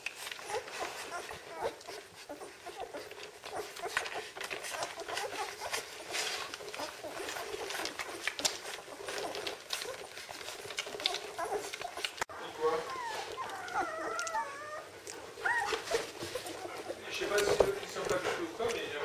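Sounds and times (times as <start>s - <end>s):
puppies squeaking: 0.0s - 19.0s
puppies suckling: 0.0s - 19.0s.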